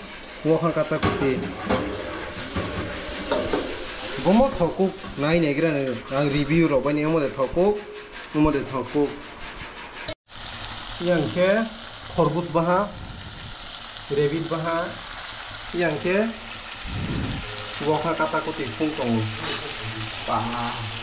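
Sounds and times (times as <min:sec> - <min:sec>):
chicken sizzling in a pan: 0:00.0 - 0:06.6, 0:10.3 - 0:21.0.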